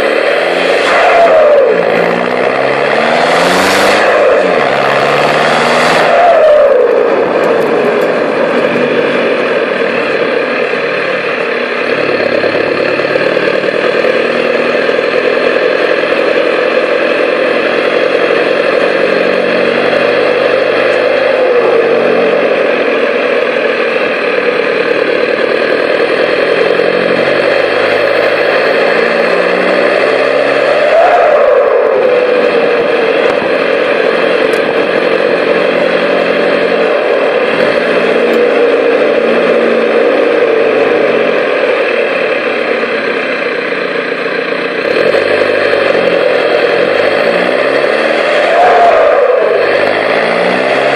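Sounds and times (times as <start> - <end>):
loud diesel engine exhaust: 0.0 - 50.9.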